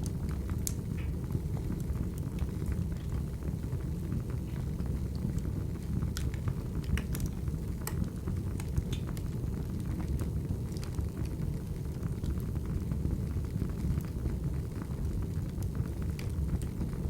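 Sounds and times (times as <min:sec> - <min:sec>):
fire flames rumbling: 0:00.0 - 0:17.0
firewood crackling and popping: 0:00.0 - 0:17.0.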